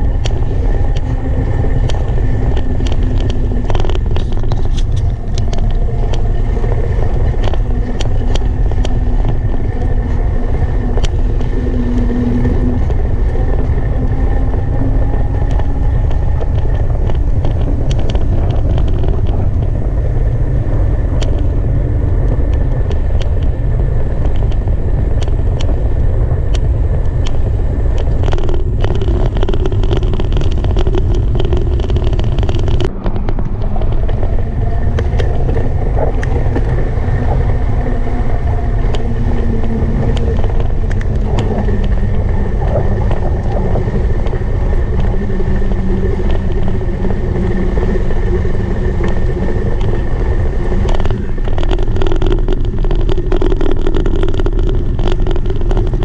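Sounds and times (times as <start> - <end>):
wheels rolling on pavement: 0.0 - 56.0
wind rumble on microphone: 0.0 - 56.0.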